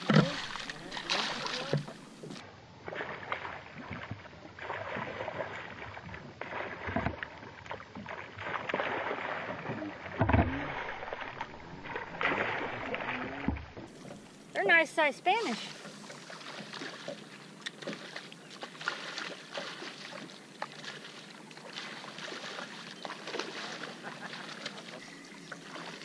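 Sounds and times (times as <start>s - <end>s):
water splashing and lapping: 0.0s - 26.0s.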